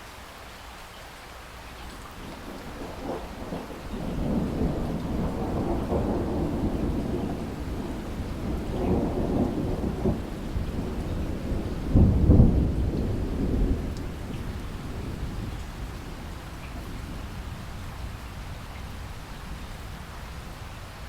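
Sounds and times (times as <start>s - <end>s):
rain hissing: 0.0s - 21.0s
thunder rumbling: 2.2s - 21.0s.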